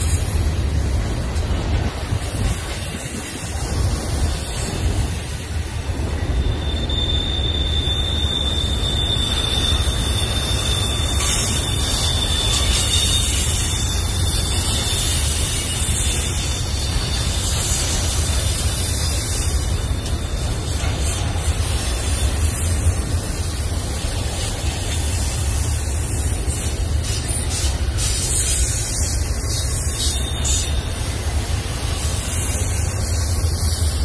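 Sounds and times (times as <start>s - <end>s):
high wheel squeal: 0.0s - 34.0s
train wheels rumbling on rail: 0.0s - 34.0s.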